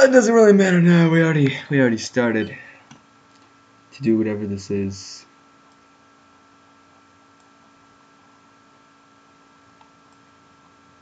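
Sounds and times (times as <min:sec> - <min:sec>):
faint electrical hum with hiss: 0:00.0 - 0:11.0.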